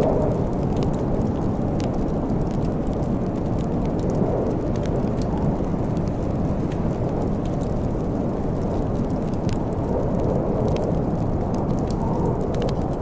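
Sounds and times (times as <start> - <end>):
storm wind rushing: 0.0 - 13.0
wood fire crackling and popping: 0.0 - 13.0.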